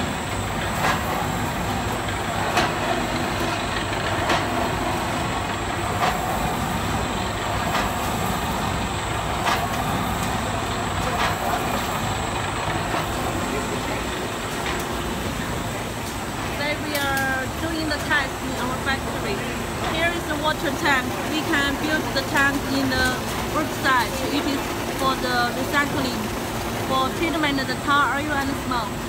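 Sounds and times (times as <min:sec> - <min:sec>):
machinery rumble and hiss: 0:00.0 - 0:29.0.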